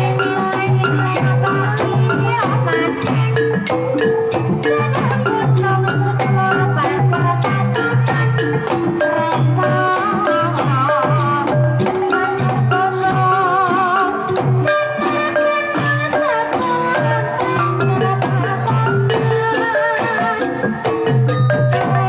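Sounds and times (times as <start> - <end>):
gongs and metallophones: 0.0 - 22.0
hand drum: 0.0 - 22.0.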